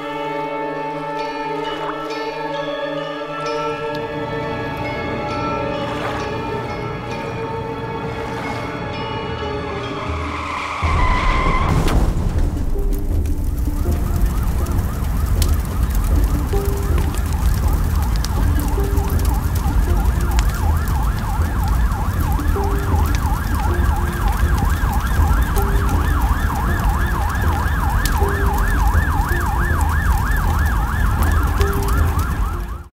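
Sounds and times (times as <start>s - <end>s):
sirens wailing: 0.0s - 32.9s
heavy low rumble: 4.6s - 32.8s.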